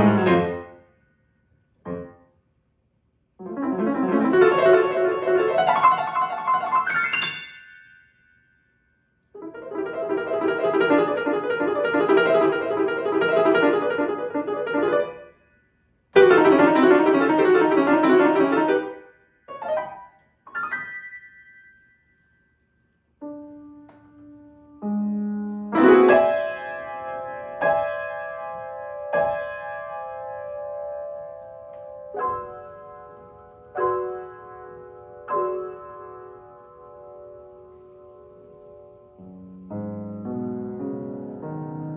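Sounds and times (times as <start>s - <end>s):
solo piano: 0.0s - 0.9s, 1.7s - 2.3s, 3.4s - 7.9s, 9.4s - 15.4s, 16.1s - 22.0s, 23.2s - 41.9s.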